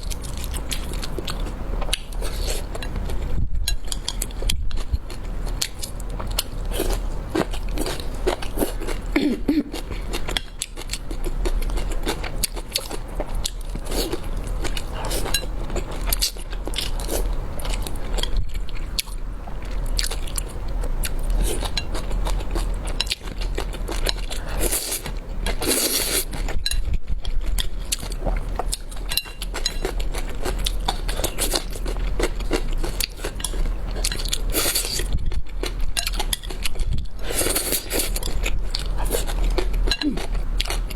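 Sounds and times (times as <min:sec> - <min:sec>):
chewing noodles with wet clicks: 0:00.0 - 0:09.1, 0:09.7 - 0:40.9.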